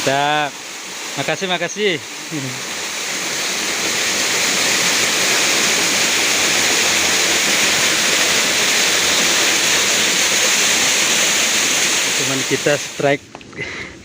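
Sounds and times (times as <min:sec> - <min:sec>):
river water rushing: 0:00.0 - 0:13.2.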